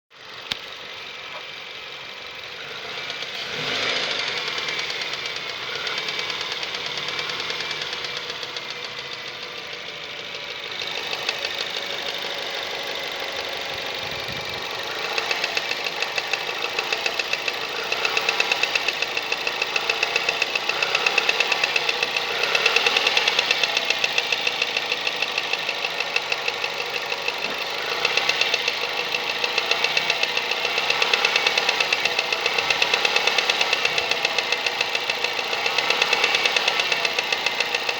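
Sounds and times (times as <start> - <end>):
car engine running: 0.2 - 37.9.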